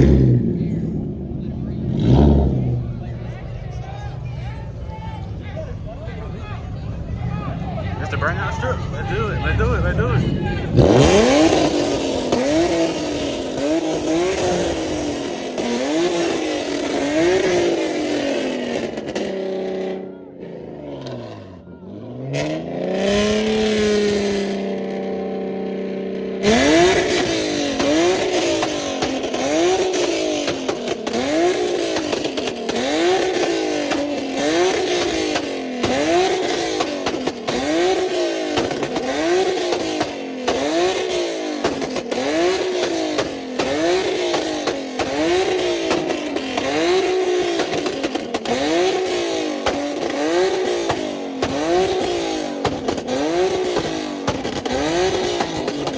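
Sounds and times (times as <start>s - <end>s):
car engine revving hard: 0.0s - 4.0s, 5.5s - 55.9s.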